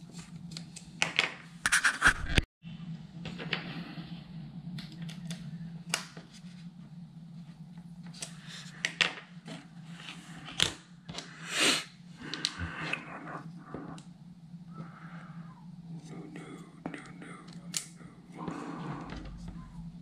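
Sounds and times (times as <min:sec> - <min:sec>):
steady low hum: 0:02.6 - 0:20.0.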